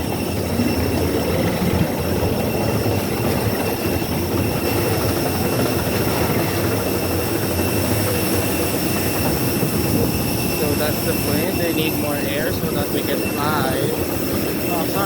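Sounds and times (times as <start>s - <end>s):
faint high whining tones: 0.0s - 15.0s.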